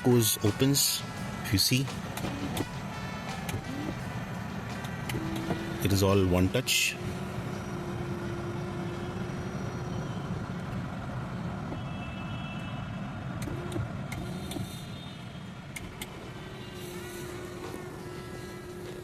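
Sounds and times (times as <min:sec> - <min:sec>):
low hum in car cabin: 0:00.0 - 0:19.0.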